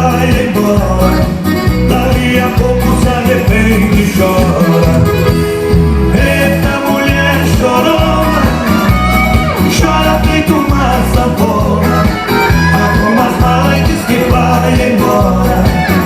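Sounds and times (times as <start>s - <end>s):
accordion: 0.0s - 16.0s
live band playing: 0.0s - 16.0s
thumping bass and drum beat: 0.0s - 16.0s.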